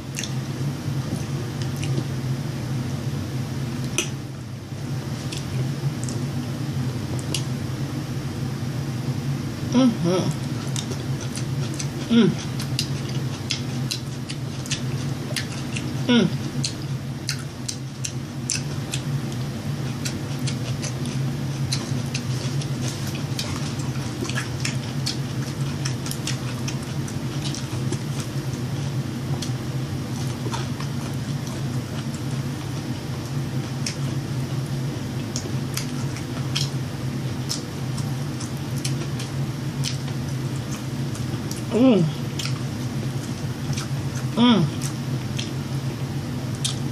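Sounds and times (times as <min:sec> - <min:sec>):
steady low hum: 0:00.0 - 0:46.9
wet chewing mouth sounds: 0:00.1 - 0:00.4, 0:01.1 - 0:02.1, 0:05.2 - 0:06.3, 0:07.1 - 0:07.6, 0:10.3 - 0:34.3, 0:35.1 - 0:45.6, 0:46.5 - 0:46.9.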